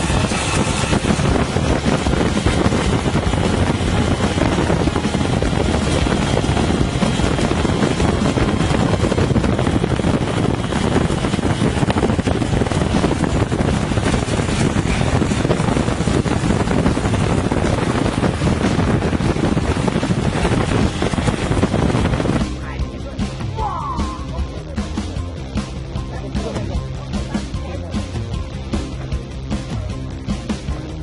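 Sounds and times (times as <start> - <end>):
vehicle noise: 0.0 - 31.0
wind buffeting microphone: 0.0 - 31.0.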